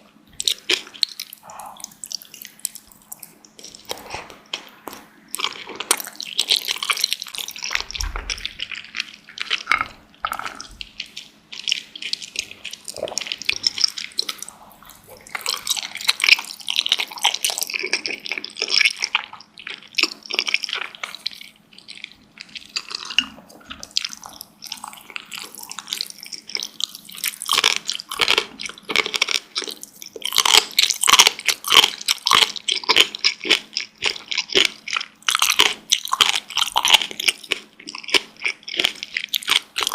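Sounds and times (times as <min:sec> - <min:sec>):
wet chewing and mouth sounds: 0:00.0 - 0:39.9.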